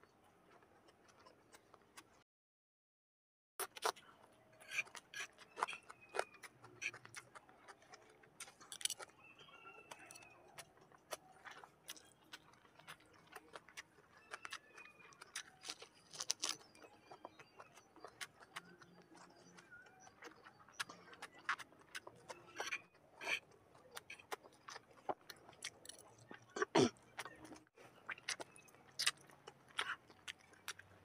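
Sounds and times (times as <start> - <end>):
chewing and lip smacking: 0.4 - 2.2, 3.7 - 31.0.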